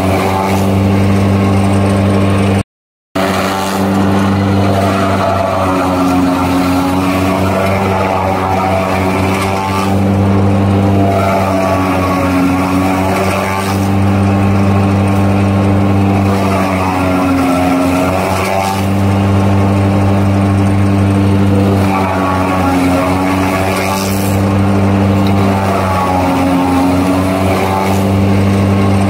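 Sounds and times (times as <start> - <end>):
heavy diesel engine running: 0.0 - 2.6, 3.2 - 29.0.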